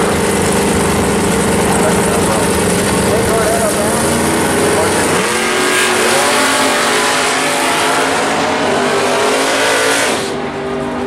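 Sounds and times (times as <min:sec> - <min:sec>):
drag racing cars launching: 0:00.0 - 0:11.0.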